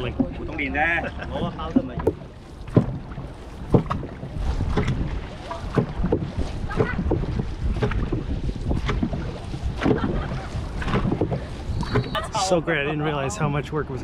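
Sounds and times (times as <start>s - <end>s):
paddle strokes in water: 0.0s - 14.0s
wind buffeting microphone: 0.0s - 14.0s.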